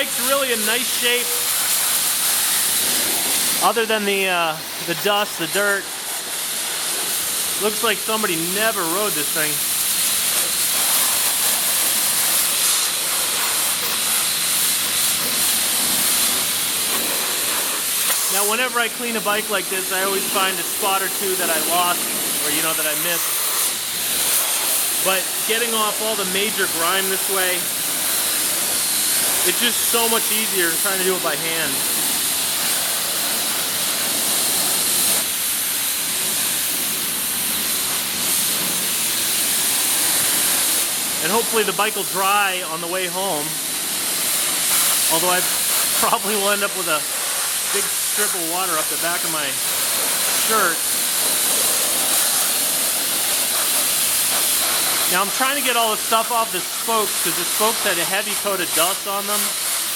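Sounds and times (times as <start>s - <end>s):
pressure washer spraying water: 0.0s - 59.9s.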